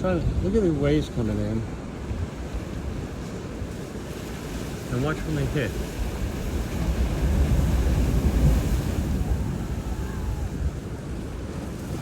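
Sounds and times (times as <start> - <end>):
ocean waves crashing on rocks: 0.0 - 12.0
wind buffeting microphone: 0.0 - 12.0.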